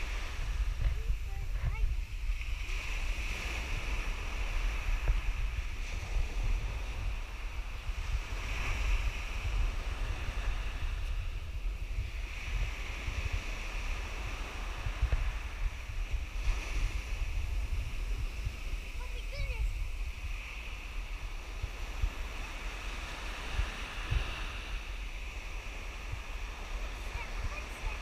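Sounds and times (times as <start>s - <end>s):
waves washing on shore: 0.0s - 28.0s
wind on microphone: 0.0s - 28.0s.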